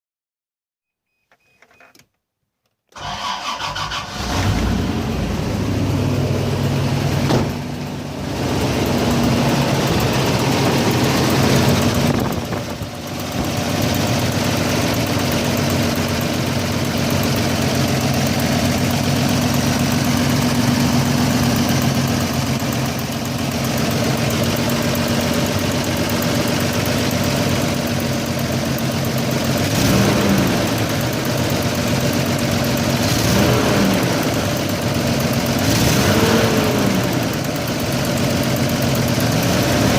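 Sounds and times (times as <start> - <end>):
car engine idling: 3.0 - 39.9.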